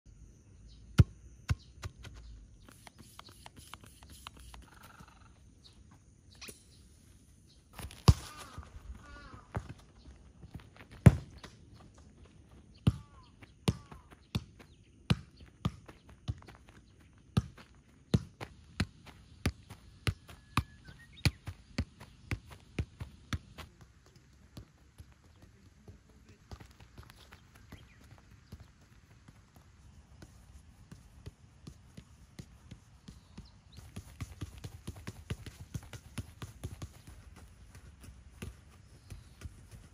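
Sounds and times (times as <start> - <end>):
football kicked with thumps: 1.0 - 3.6, 7.7 - 39.9.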